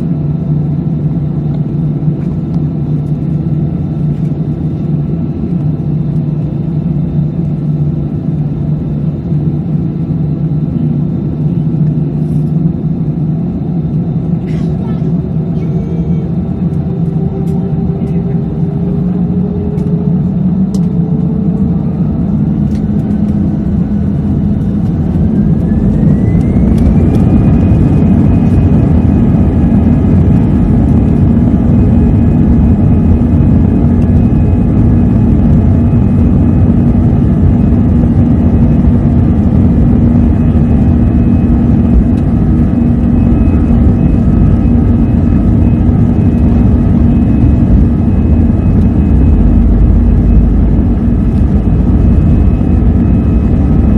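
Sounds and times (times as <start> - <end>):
jet engine whine: 0.0 - 53.9
takeoff roll rumble: 10.7 - 53.9.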